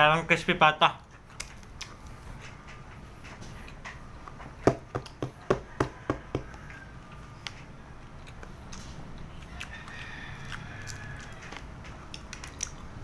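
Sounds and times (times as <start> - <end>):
crunchy food being chewed: 1.0 - 13.0.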